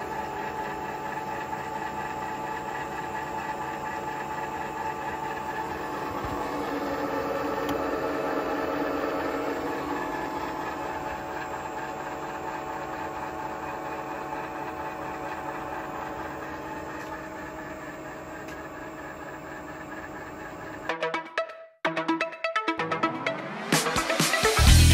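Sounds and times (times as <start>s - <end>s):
milling machine hum: 0.0s - 21.0s.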